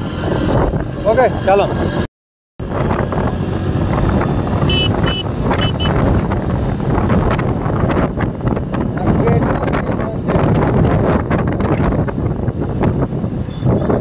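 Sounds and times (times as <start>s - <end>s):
motorbike road and engine noise: 0.0s - 14.0s
wind rushing over microphone: 0.0s - 14.0s.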